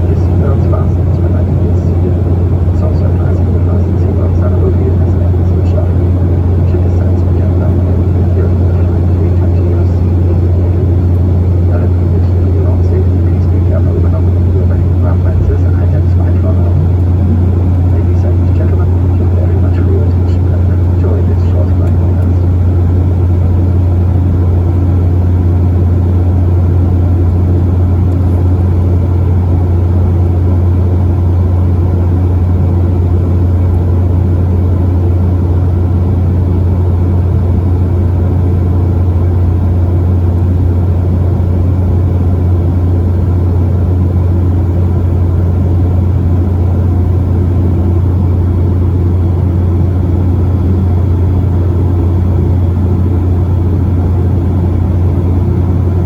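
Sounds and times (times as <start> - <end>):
jet cabin engine drone: 0.0 - 56.0.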